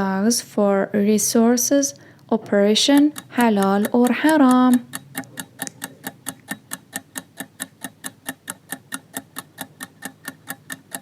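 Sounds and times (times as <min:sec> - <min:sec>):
clock ticking steadily: 0:01.9 - 0:11.0.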